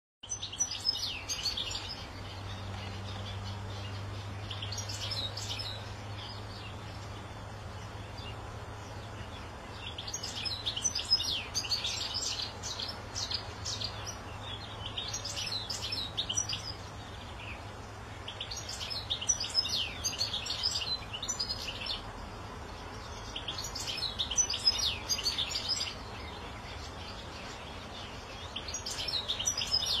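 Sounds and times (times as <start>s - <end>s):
goldfinch high twittering song: 0.2s - 22.1s, 22.7s - 30.0s.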